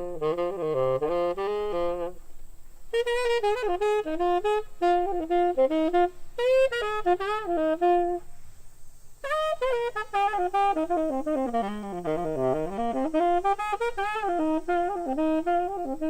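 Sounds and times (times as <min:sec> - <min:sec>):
saxophone playing jazz: 0:00.0 - 0:16.0.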